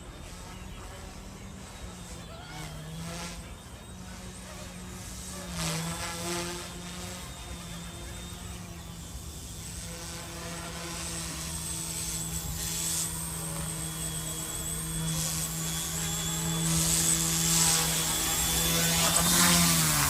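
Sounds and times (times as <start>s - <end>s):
high electric motor whine: 0.0s - 20.0s
rc helicopter rotor hum: 0.0s - 20.0s.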